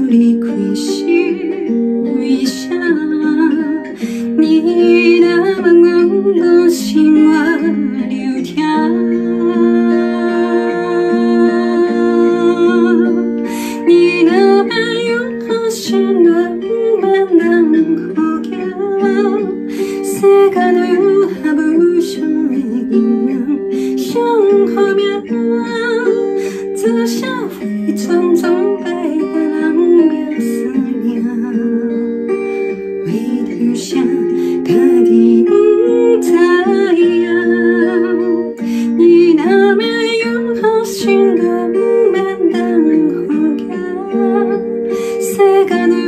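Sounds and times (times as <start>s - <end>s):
instrumental backing track: 0.0s - 46.0s
woman singing ballad: 0.0s - 46.0s.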